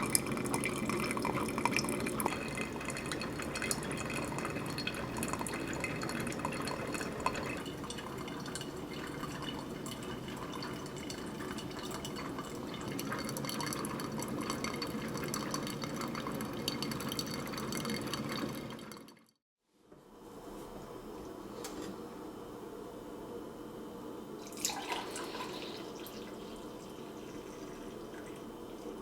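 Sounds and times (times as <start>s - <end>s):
coffee dripping into carafe: 0.0s - 19.2s, 24.4s - 29.0s.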